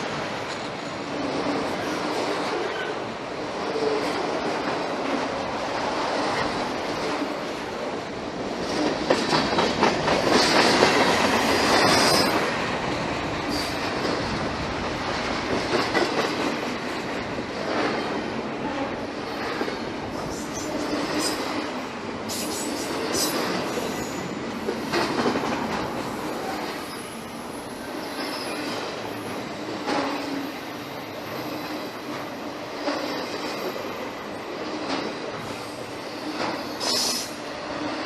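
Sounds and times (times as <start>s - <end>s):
freight train wheels clattering on rails: 0.0s - 38.0s.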